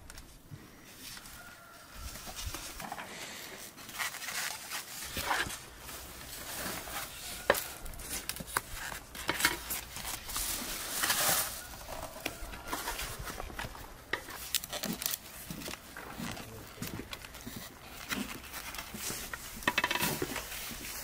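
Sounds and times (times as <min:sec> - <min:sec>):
foam boxes rustling and squeaking: 0:00.9 - 0:21.0.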